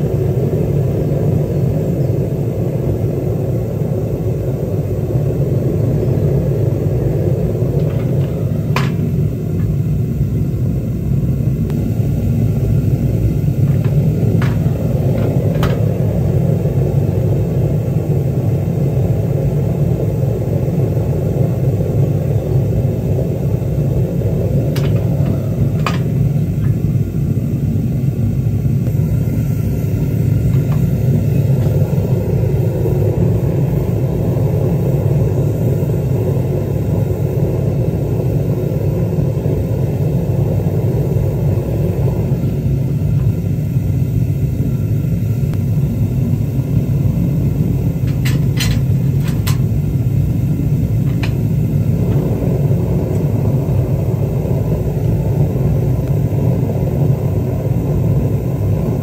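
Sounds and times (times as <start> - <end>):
gas burner roaring: 0.0 - 59.0.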